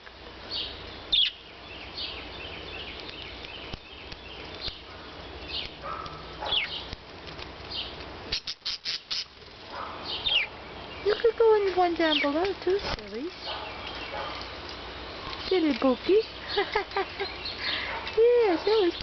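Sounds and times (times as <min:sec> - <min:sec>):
parakeets chirping: 0:00.5 - 0:07.0, 0:07.7 - 0:19.0.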